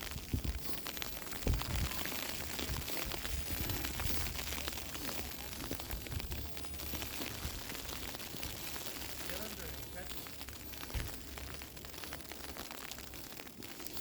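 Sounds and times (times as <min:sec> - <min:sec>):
snow falling hiss: 0:00.0 - 0:14.0.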